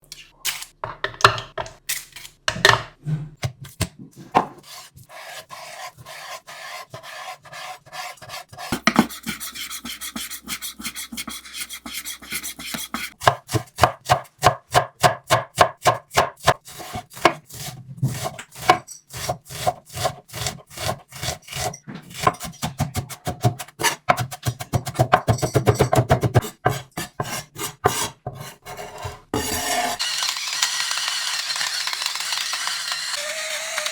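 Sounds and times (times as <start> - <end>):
knife chopping on wooden board: 2.5 - 30.0.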